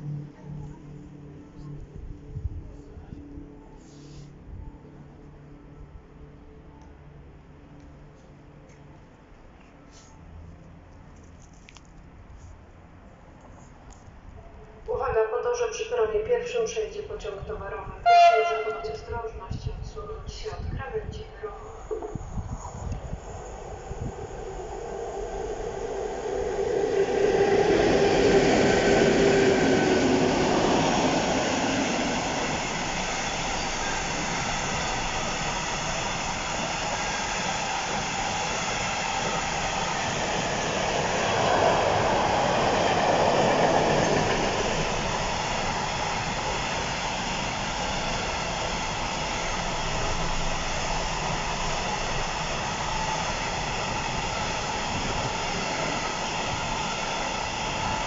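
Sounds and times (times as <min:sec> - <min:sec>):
freight train locomotive passing: 0:00.0 - 0:07.8, 0:15.6 - 0:58.0.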